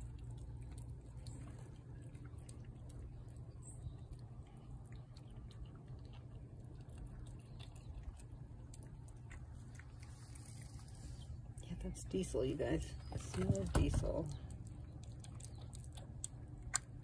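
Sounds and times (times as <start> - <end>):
cat chewing and lapping: 0.0 - 17.0.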